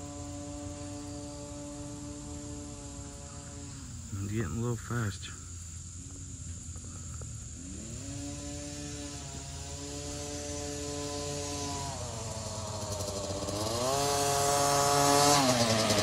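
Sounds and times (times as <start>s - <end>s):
dirt bike engine revving: 0.0s - 5.1s, 5.8s - 16.0s.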